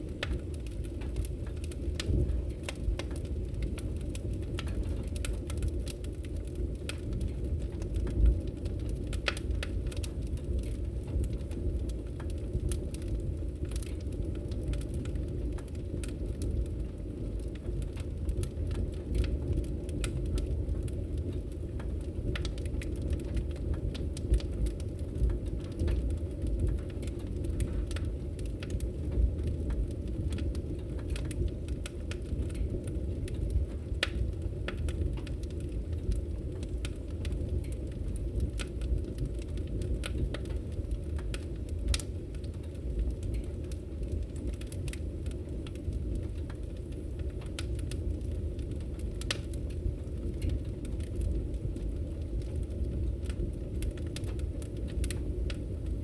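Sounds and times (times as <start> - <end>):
fire pops and snaps: 0.0 - 56.0.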